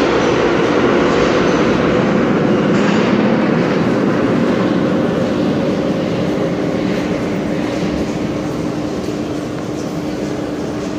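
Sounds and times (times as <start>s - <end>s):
metro train pulling away: 0.0s - 10.9s
steady station hum: 0.0s - 10.9s.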